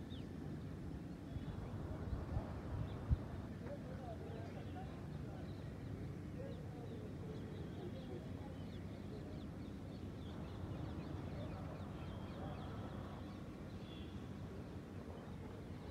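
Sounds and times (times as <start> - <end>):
low rumble of city ambience: 0.0 - 15.9.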